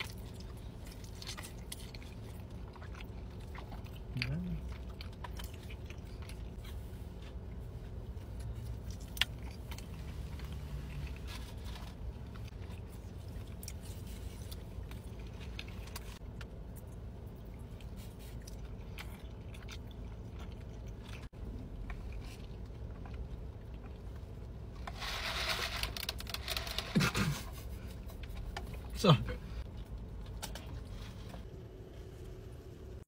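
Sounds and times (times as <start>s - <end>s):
chewing and crunching fries: 0.0s - 31.6s
low hum inside a car: 0.0s - 33.0s.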